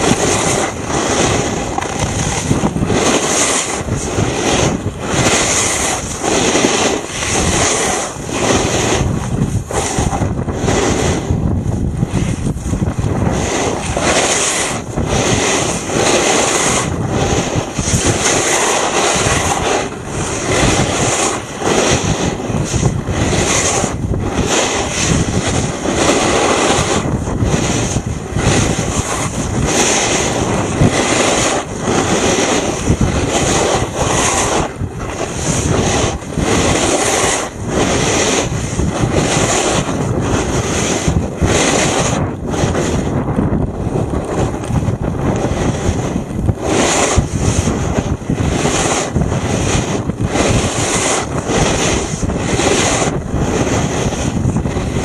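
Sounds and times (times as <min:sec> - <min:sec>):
skis scraping on snow: 0:00.0 - 0:55.0
snowmaking fan gun roaring: 0:00.0 - 0:55.0
wind rushing on microphone: 0:00.0 - 0:55.0.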